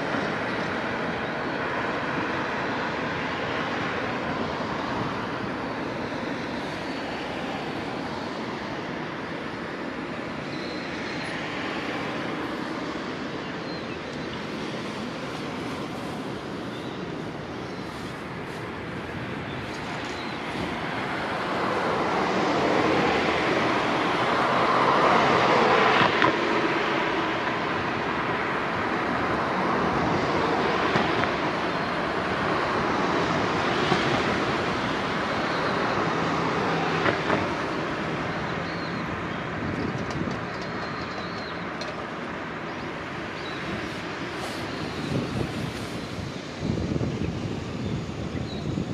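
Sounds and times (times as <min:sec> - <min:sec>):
road traffic rushing: 0:00.0 - 0:48.9.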